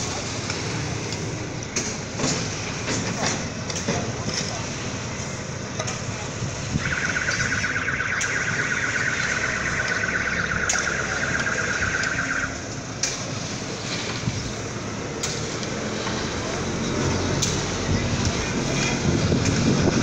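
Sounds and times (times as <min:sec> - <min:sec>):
street work background noise: 0:00.0 - 0:20.0.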